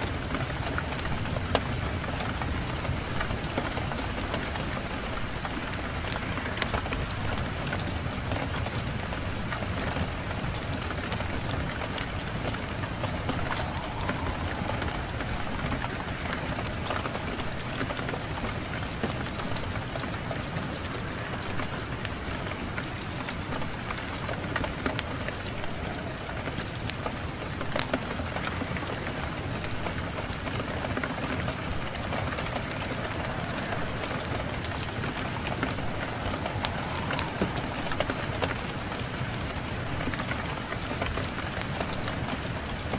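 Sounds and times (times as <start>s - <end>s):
fire crackling and popping: 0.0s - 42.9s
steady hiss: 0.0s - 42.9s
wind blowing: 0.0s - 42.9s.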